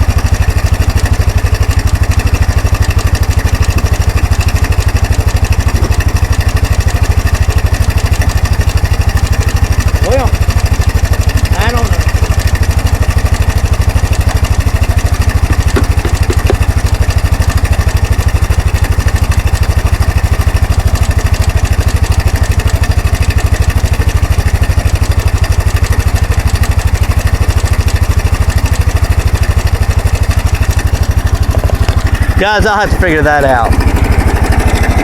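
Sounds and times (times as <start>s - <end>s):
atv engine idling: 0.0s - 35.0s.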